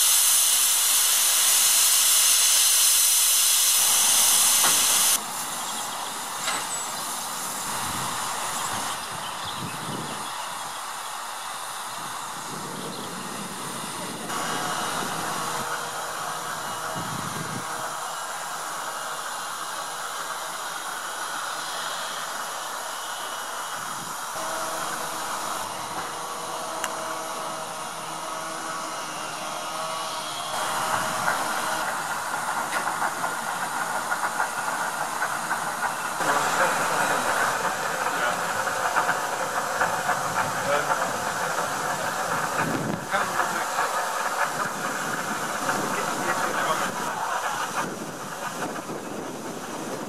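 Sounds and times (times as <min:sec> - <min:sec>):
steam hissing from locomotive: 0:00.0 - 0:50.0.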